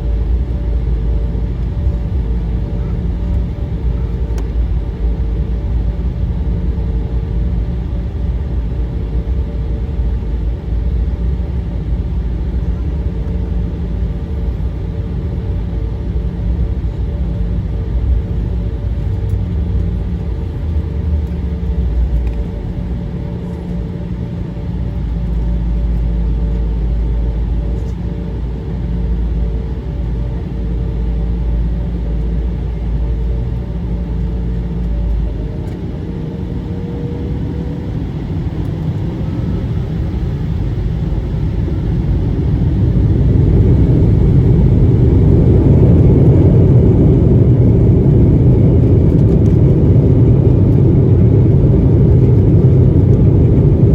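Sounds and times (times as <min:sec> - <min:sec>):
jet cabin engine rumble: 0:00.0 - 0:53.9.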